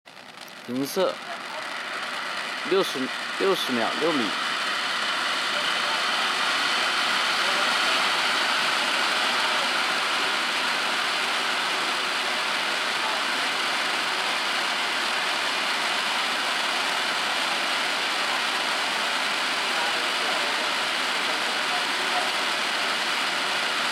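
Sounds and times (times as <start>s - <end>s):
firework fountain hissing: 0.1s - 23.9s.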